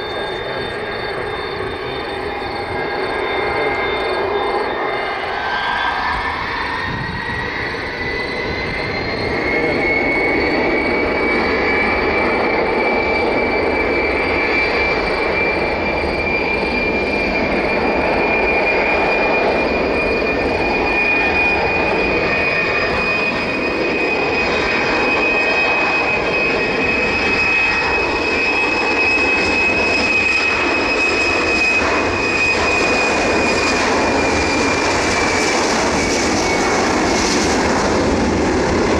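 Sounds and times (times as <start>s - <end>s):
jet engine roar: 0.0s - 38.9s
jet engines high whine: 0.0s - 38.9s.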